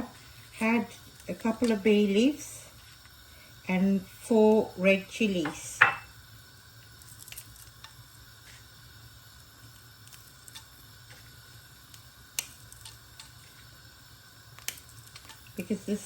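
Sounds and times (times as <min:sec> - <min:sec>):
chilies frying in hot oil: 0:00.0 - 0:16.0.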